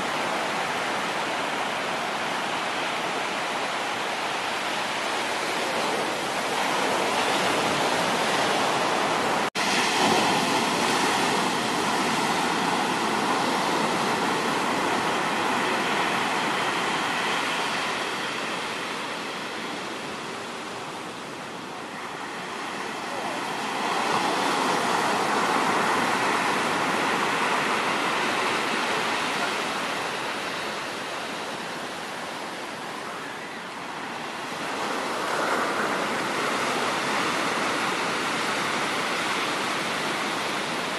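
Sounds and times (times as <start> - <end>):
ocean surf on sandy beach: 0.0 - 40.9.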